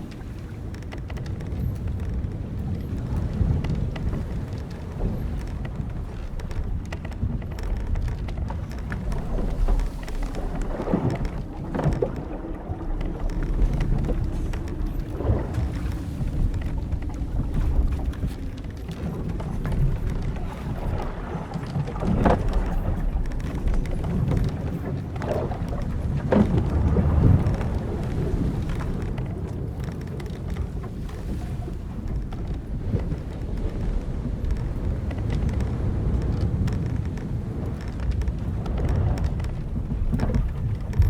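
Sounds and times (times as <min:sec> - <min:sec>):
waves washing: 0:00.0 - 0:41.0
wind: 0:00.0 - 0:41.0
wooden hull and rigging creaking: 0:00.0 - 0:41.0.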